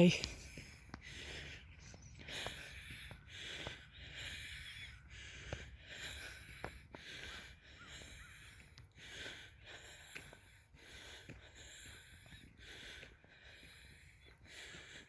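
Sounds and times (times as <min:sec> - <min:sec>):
person breathing: 0:00.0 - 0:15.0.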